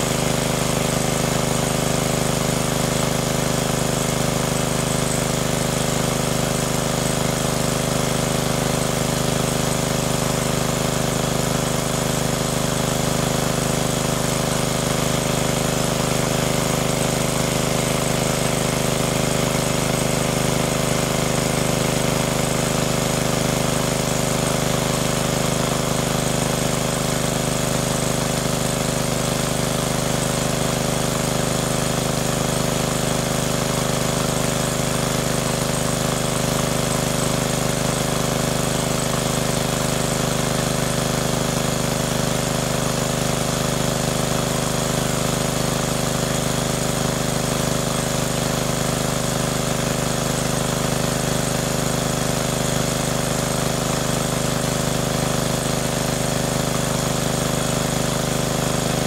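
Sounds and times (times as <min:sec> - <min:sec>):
engine-driven water pump running: 0:00.0 - 0:59.0.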